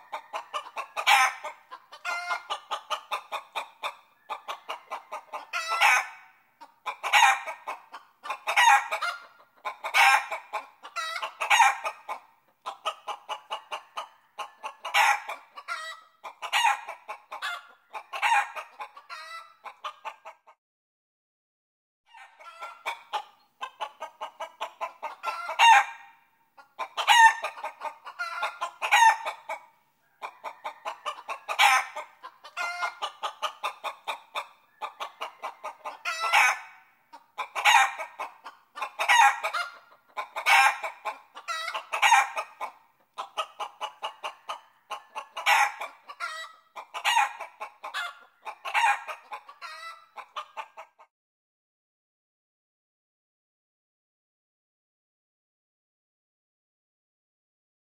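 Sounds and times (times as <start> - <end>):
chicken squawking: 0.0 - 6.2, 6.8 - 20.4, 22.1 - 29.6, 30.2 - 51.1
chickens clucking: 0.0 - 20.6, 22.1 - 51.1.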